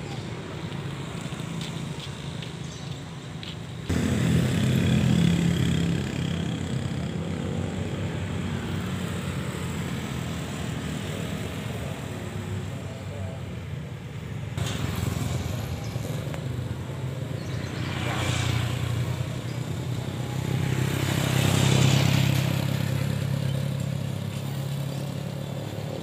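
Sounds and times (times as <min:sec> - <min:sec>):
street traffic: 0:00.0 - 0:26.0
motorcycle engines passing: 0:00.1 - 0:26.0.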